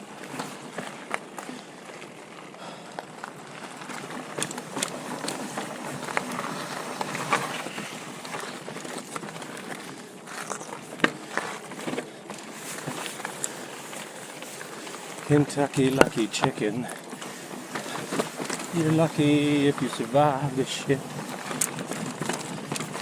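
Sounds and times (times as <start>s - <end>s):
bike knocking and rattling: 0.0s - 23.0s
bike tyres on rocky trail: 0.0s - 23.0s.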